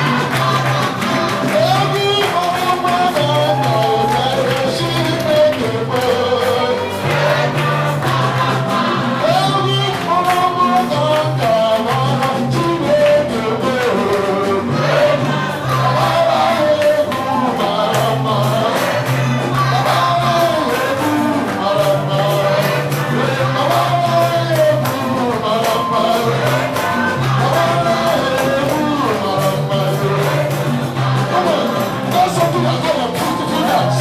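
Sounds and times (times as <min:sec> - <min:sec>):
band playing with steady beat: 0:00.0 - 0:34.0
voices singing gospel: 0:00.0 - 0:34.0.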